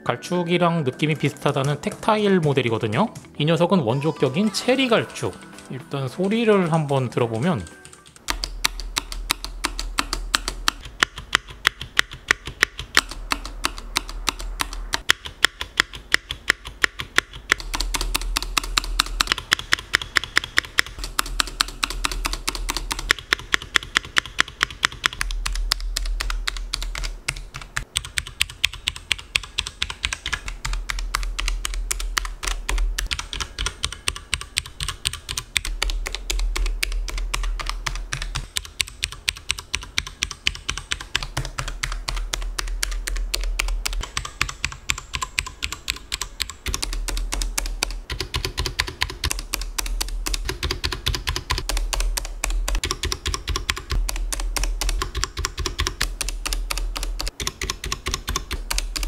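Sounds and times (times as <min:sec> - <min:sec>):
mechanical keyboard typing: 0:01.1 - 0:59.0.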